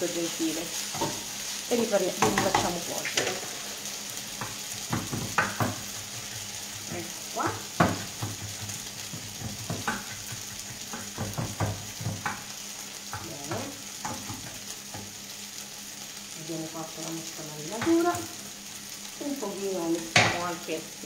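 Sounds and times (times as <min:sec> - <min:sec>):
vegetables sizzling in frying pan: 0:00.0 - 0:21.0.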